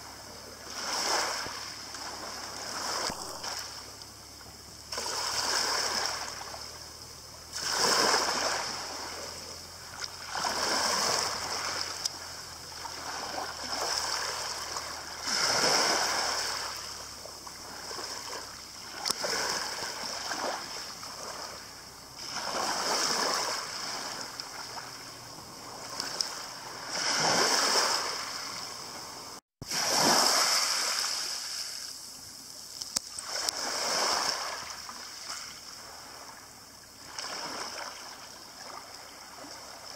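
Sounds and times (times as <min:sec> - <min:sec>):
waves washing over shingle: 0:00.6 - 0:04.2, 0:04.8 - 0:36.2.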